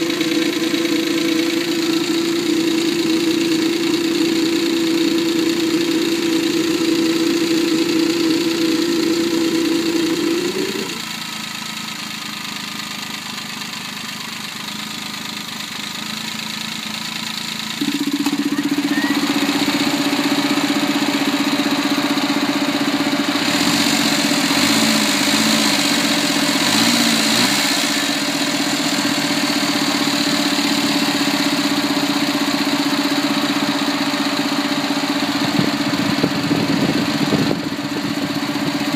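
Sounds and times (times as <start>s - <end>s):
car engine droning hum: 0.0s - 13.5s, 14.8s - 38.9s.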